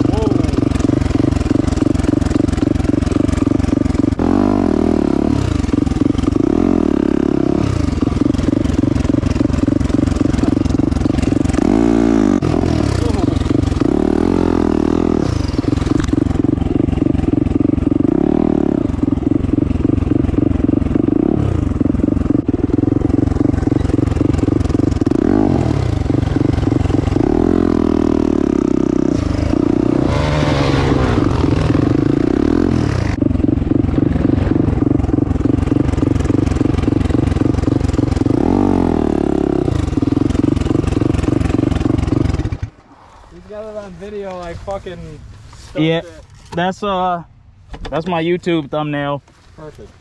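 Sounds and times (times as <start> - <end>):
dirt bike engine revving: 0.0 - 44.1.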